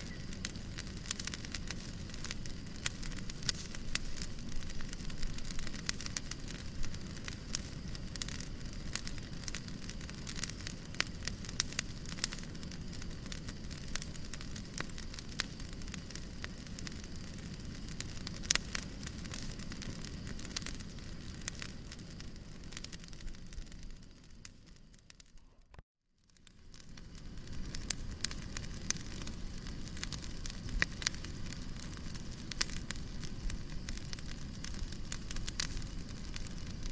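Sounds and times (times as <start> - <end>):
low rumble of burning: 0.0 - 36.9
wood fire crackling: 0.0 - 36.9.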